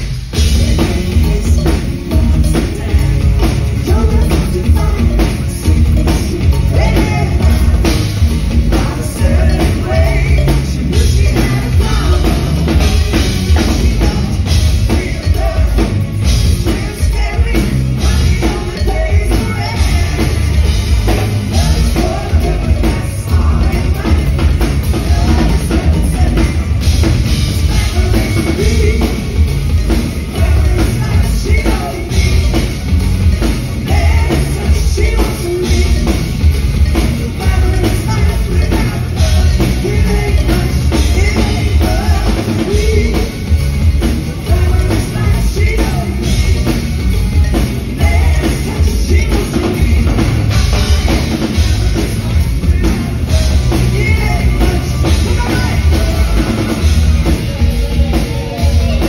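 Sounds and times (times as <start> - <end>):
heavy bass beat: 0.0 - 59.0
live band music: 0.0 - 59.0.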